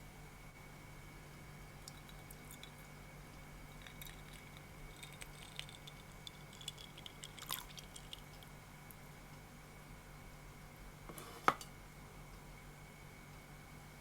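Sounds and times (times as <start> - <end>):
steady faint hum: 0.0 - 14.0.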